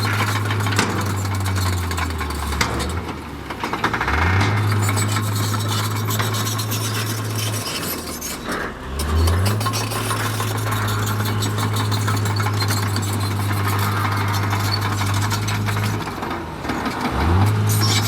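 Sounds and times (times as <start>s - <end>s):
heavy diesel engine under load: 0.0s - 18.0s.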